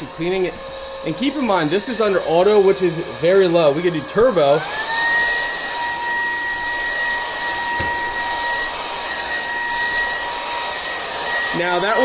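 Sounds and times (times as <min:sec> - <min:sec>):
vacuum motor high whine: 0:00.0 - 0:12.0.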